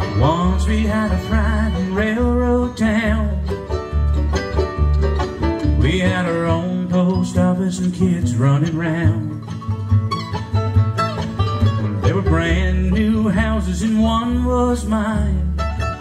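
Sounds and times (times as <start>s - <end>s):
country song with banjo and guitar: 0.0s - 16.0s.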